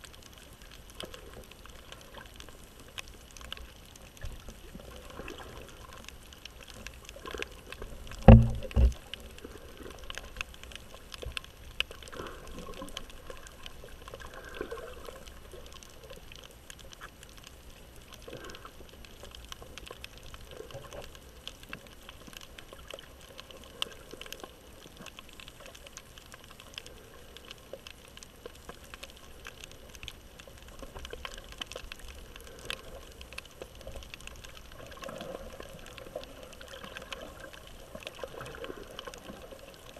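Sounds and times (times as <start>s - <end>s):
crackle of faint clicks: 0.0s - 39.9s
underwater water noise: 0.0s - 39.9s.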